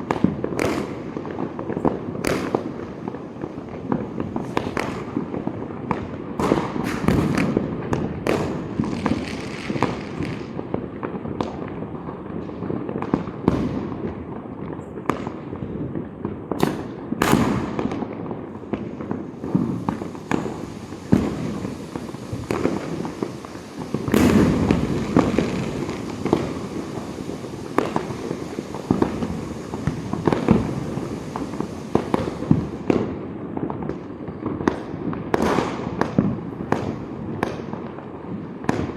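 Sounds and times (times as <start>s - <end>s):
sharp close firecracker bangs: 0.0s - 14.2s, 15.0s - 37.8s
crackle of distant fireworks: 0.0s - 38.9s.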